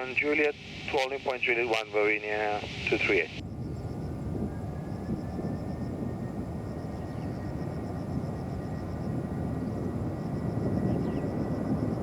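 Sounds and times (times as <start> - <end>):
distant jet engines rumbling: 0.0 - 12.0.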